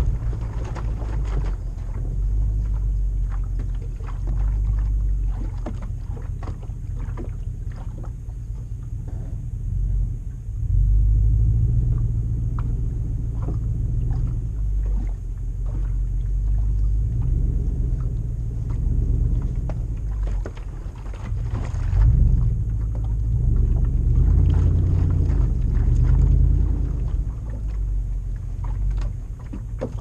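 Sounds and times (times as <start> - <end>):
engine deep rumble revving: 0.0 - 30.0.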